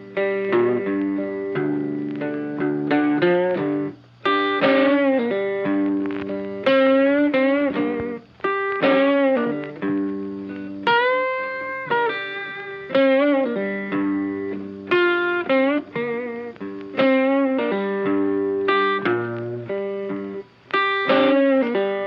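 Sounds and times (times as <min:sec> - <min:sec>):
guitar melody with bending notes: 0:00.0 - 0:22.0.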